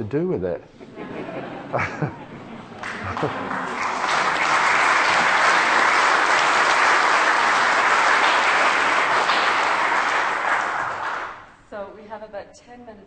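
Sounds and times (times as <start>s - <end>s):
audience applauding: 0.9s - 11.5s.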